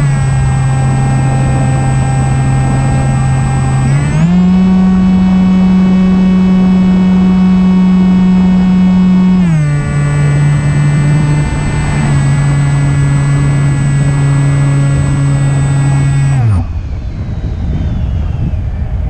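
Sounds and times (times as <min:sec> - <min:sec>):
electric motor and propeller whine: 0:00.0 - 0:19.0.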